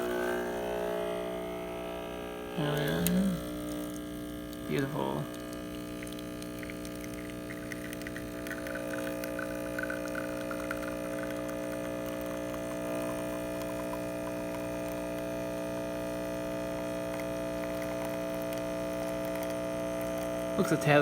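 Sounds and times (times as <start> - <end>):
espresso machine pump humming: 0.0 - 21.0
faint crackle: 2.7 - 21.0.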